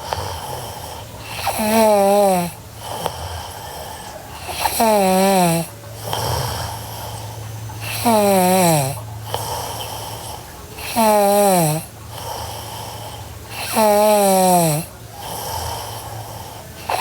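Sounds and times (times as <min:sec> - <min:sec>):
girl snoring: 0:00.0 - 0:07.2, 0:07.8 - 0:10.2, 0:10.8 - 0:17.0.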